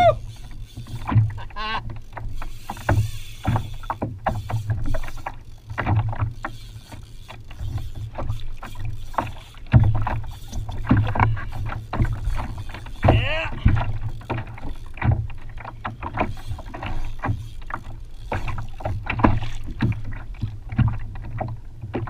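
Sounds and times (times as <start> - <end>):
water slapping against kayak hull: 0.0 - 22.0.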